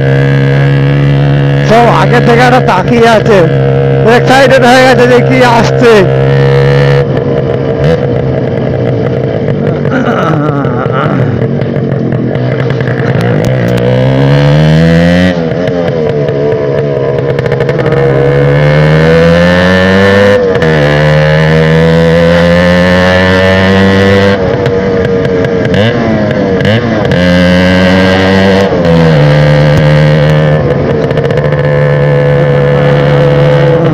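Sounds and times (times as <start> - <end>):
motorcycle accelerating: 0.0 - 33.9.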